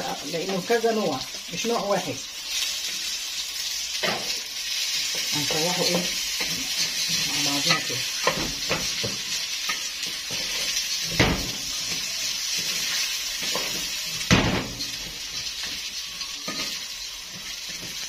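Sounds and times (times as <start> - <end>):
rice sizzling in pan: 0.0 - 18.0.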